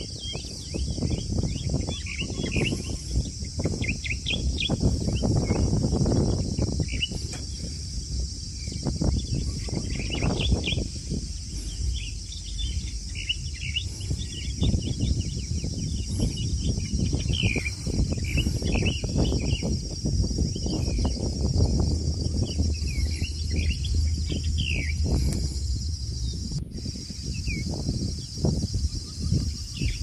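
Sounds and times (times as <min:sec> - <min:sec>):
high insect drone: 0:00.0 - 0:30.0
small birds chirping: 0:00.0 - 0:30.0
uneven low rumble: 0:00.0 - 0:30.0.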